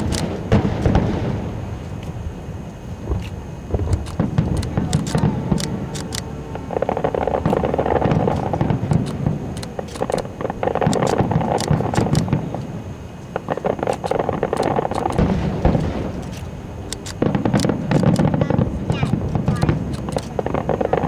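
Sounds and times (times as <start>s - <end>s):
fireworks bangs and crackles: 0.0s - 21.0s
steady rumble: 0.0s - 21.0s.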